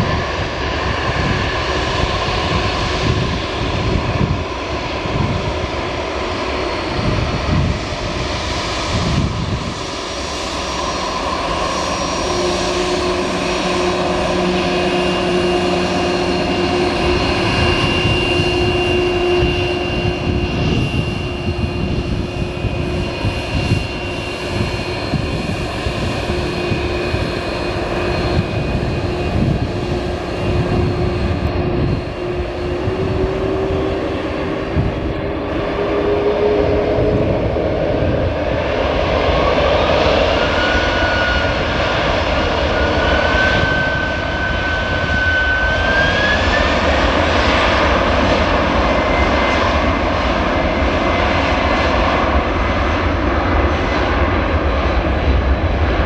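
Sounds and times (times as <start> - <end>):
jet engine whine: 0.0 - 56.0
jet engines running: 0.0 - 56.0.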